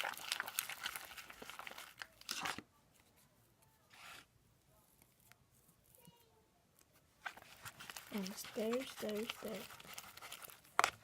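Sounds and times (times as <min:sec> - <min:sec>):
slime crackling as stirred: 0:00.0 - 0:11.0
soft rustle: 0:00.9 - 0:11.0.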